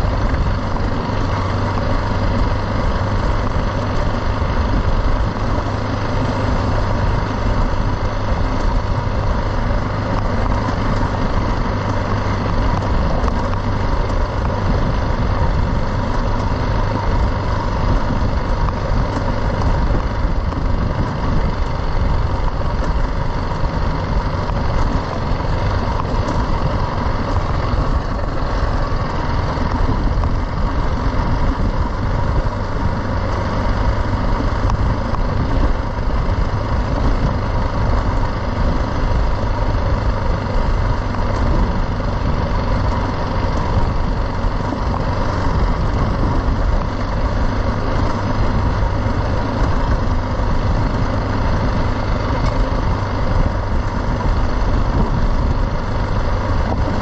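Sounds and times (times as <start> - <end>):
motorcycle engine cruising: 0.0 - 57.0
tyre noise: 0.0 - 57.0.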